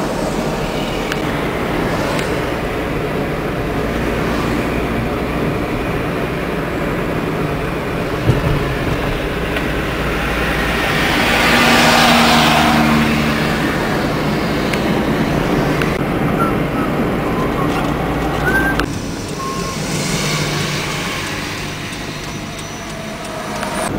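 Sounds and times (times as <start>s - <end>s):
car road and engine noise: 0.0s - 23.9s
rush of noise: 0.0s - 23.9s.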